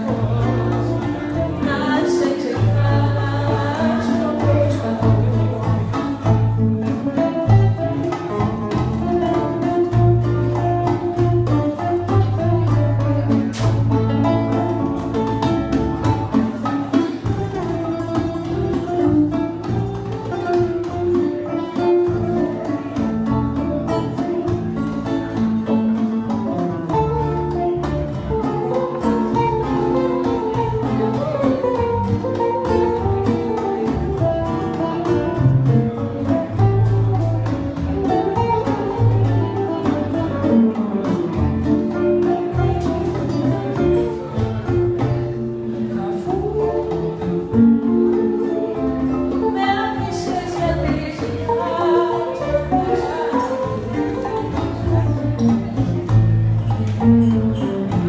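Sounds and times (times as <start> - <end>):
electric guitar: 0.0 - 58.0
nylon-string acoustic guitar: 0.0 - 58.0.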